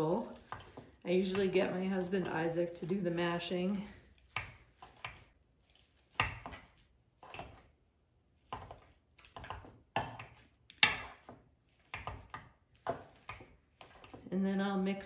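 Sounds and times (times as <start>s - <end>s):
potato masher mashing potatoes: 0.0s - 15.0s.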